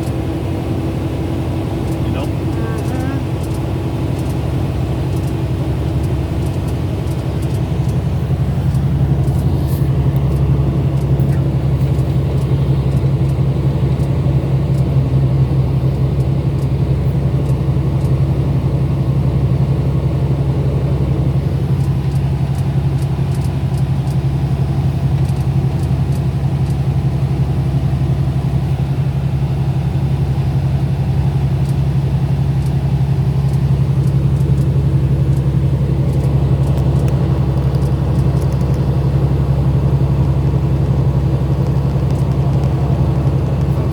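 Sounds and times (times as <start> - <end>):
car engine hum: 0.0 - 43.9
road rumble: 0.0 - 43.9.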